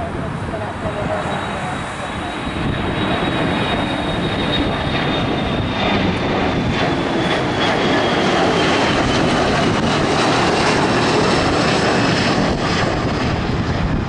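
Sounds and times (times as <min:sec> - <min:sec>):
jet engine roar with high whine: 0:00.0 - 0:14.0.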